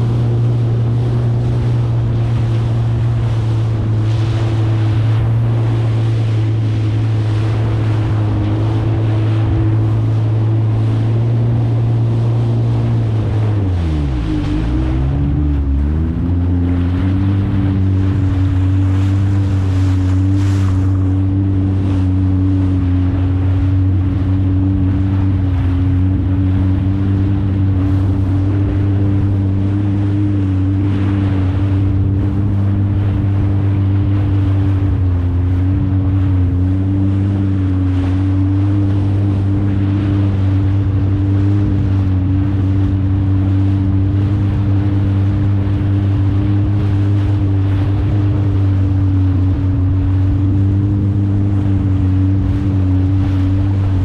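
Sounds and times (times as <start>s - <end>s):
jet ski engine running: 0.0s - 54.0s
wind and water rushing: 0.0s - 54.0s.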